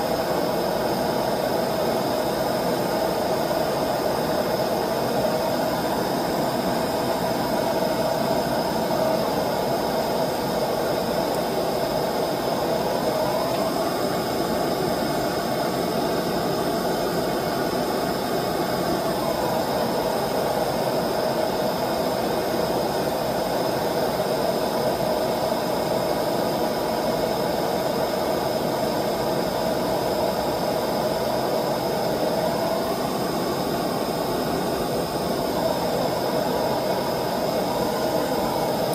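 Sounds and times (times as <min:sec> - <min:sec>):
gas burner rushing: 0:00.0 - 0:38.9.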